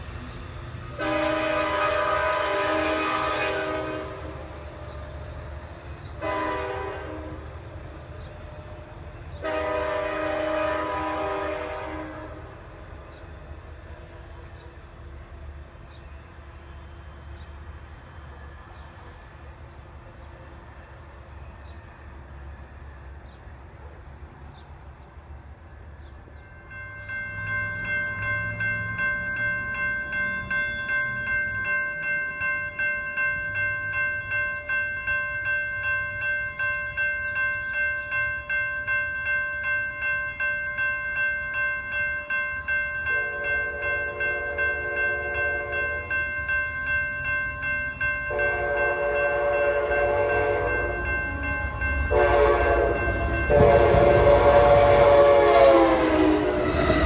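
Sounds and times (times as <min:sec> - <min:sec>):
crossing warning bells ringing: 0:00.0 - 0:57.0
distant train rumble: 0:00.0 - 0:57.0.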